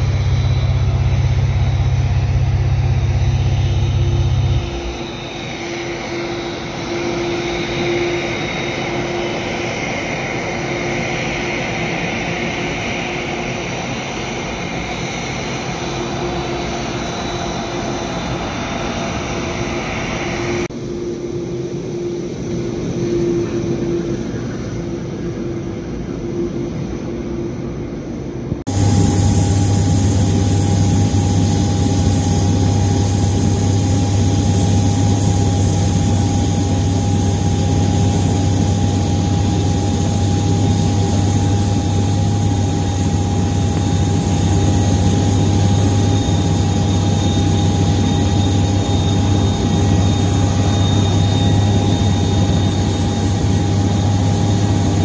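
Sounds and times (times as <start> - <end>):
jet engines whining at taxi power: 0.0 - 55.0.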